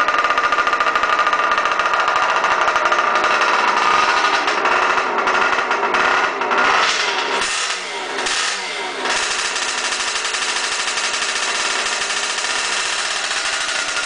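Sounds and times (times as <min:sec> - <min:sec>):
two-stroke kart engine running: 0:00.0 - 0:14.0.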